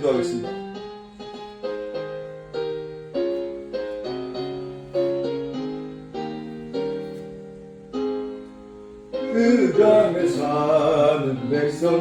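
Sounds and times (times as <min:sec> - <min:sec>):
piano playing hymn chords: 0:00.0 - 0:12.0.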